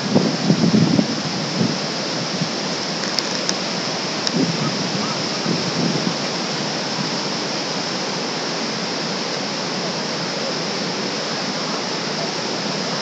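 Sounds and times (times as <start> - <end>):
river rapids rushing over boulders: 0.0 - 13.0.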